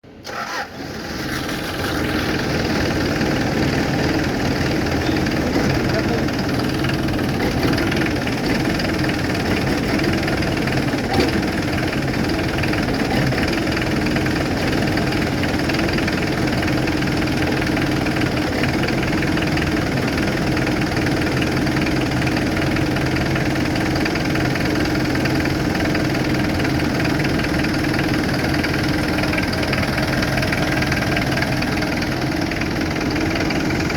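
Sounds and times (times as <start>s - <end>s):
forklift engine idling: 0.1s - 33.9s.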